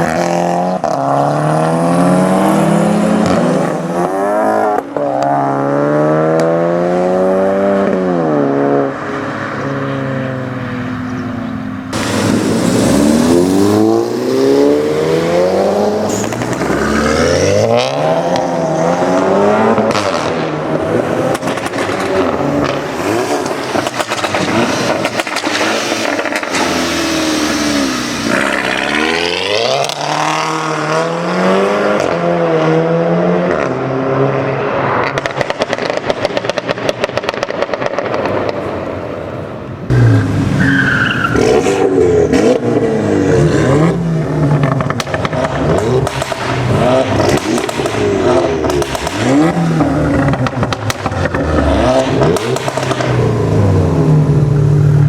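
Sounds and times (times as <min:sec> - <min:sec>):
car engine revving and accelerating: 0:00.0 - 0:39.1, 0:39.9 - 0:55.0.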